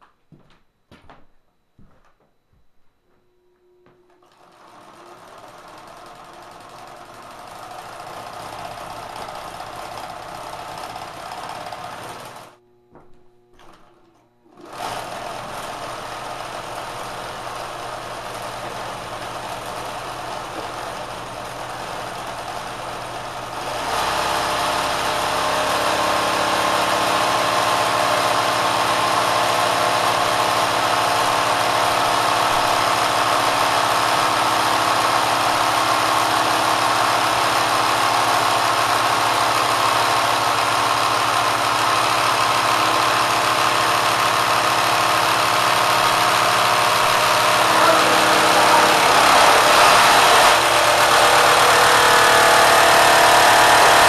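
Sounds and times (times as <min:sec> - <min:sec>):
sewing machine running fast: 0:04.2 - 0:12.6, 0:14.5 - 0:54.0.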